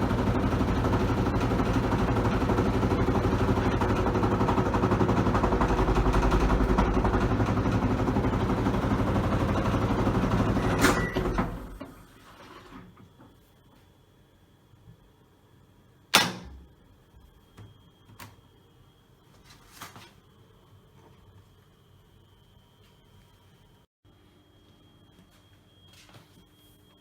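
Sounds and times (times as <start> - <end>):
washing machine spinning with rattle: 0.0 - 27.0.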